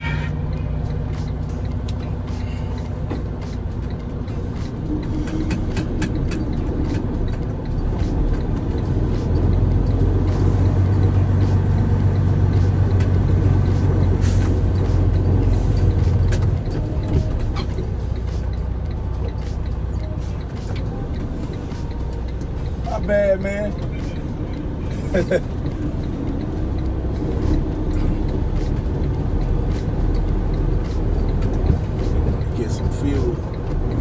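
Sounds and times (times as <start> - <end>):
truck engine humming: 0.0 - 34.0.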